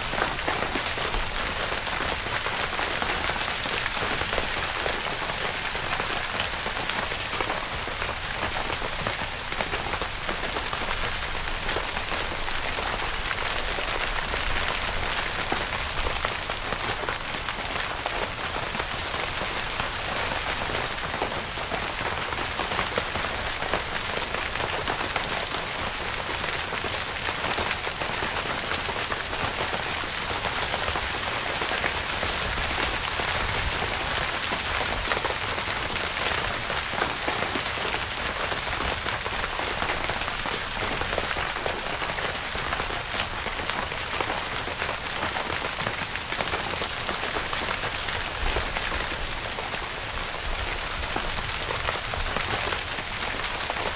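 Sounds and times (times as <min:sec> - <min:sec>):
rain falling on a tent: 0:00.0 - 0:53.9.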